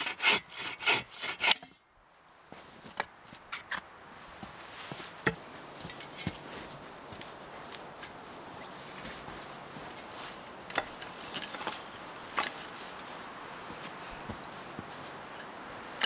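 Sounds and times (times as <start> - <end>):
footsteps crunching in snow: 2.1 - 16.0.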